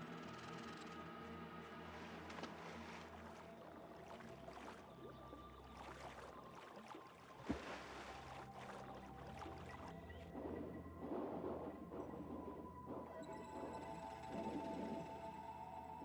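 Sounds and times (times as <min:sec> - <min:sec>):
faint background music: 0:00.0 - 0:16.0
water splashing and sloshing: 0:01.0 - 0:16.0.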